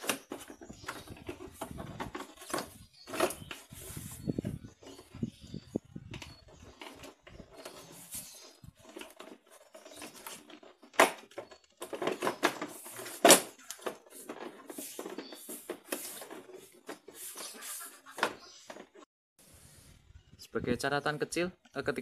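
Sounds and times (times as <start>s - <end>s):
plastic rubbing and clicking: 0.0s - 19.1s.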